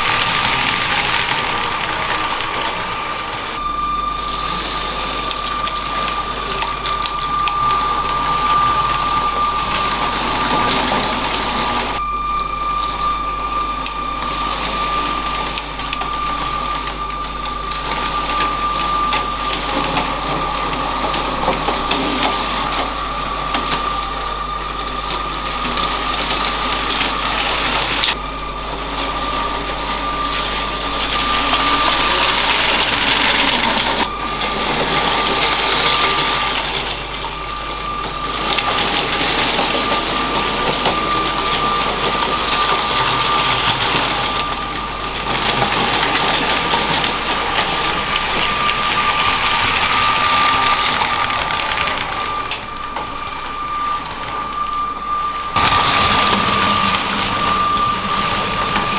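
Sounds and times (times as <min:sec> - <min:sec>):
train wheels rattling: 0:00.0 - 0:12.0, 0:12.8 - 0:58.9
toy train motor whine: 0:00.0 - 0:58.9.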